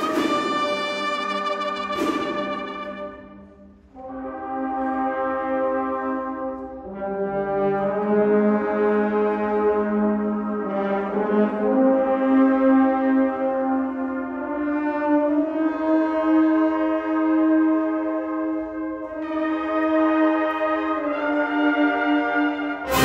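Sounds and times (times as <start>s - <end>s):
brass band playing held chords: 0.0s - 23.0s.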